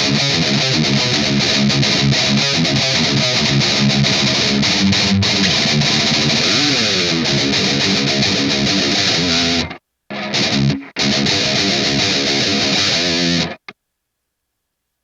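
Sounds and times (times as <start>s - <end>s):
distorted electric guitar riff: 0.0s - 13.8s.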